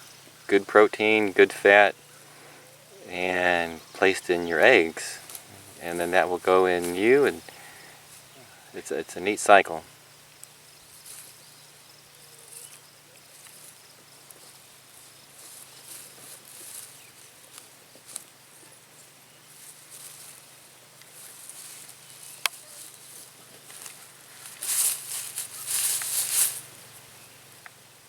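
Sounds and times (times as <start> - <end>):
chickens rustling and pecking: 0.3 - 9.8, 10.8 - 27.8.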